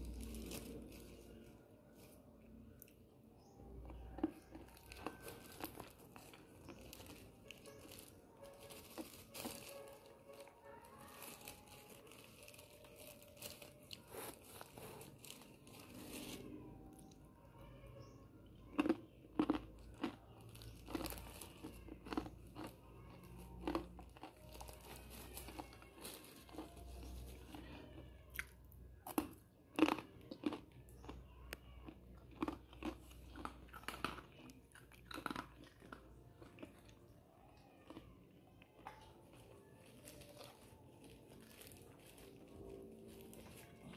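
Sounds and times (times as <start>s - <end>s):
chewing crunchy snack: 0.0s - 43.9s.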